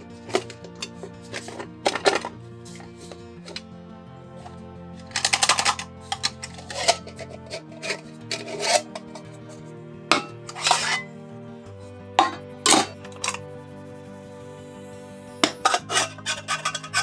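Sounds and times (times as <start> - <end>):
metal mugs rubbing and scraping: 0.0 - 3.7, 4.4 - 11.2, 11.8 - 17.0.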